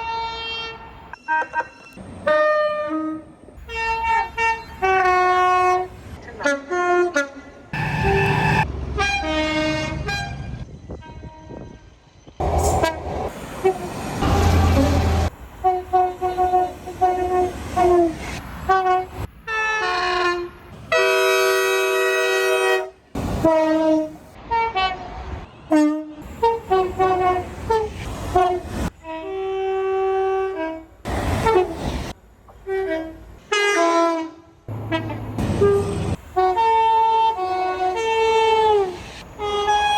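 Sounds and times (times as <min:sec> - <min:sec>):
locomotive air horns: 0:00.0 - 0:39.9
low train rumble: 0:02.0 - 0:39.9.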